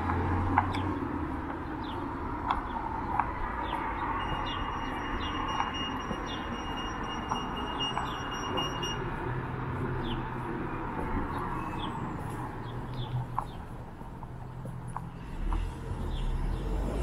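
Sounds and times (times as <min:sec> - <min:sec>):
distant traffic hum: 0:00.0 - 0:17.0
small birds chirping: 0:00.1 - 0:09.1, 0:09.8 - 0:17.0.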